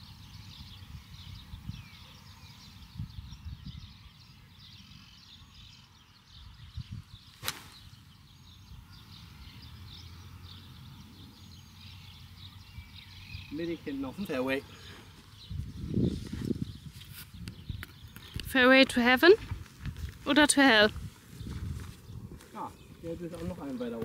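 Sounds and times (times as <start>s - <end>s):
wind rumble on microphone: 0.0s - 11.4s, 15.3s - 24.0s
birds chirping: 0.0s - 24.0s.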